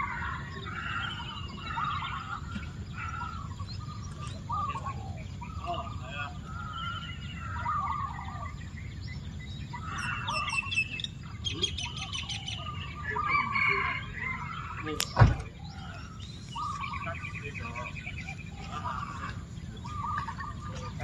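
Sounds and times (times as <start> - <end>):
bird trill: 0.0 - 21.0
birds chirping and whistling: 0.0 - 21.0.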